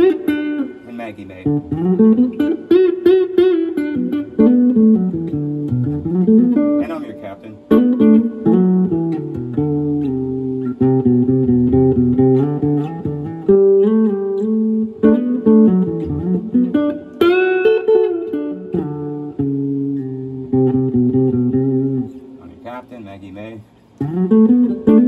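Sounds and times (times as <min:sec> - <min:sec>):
electric guitar riff: 0:00.0 - 0:25.0.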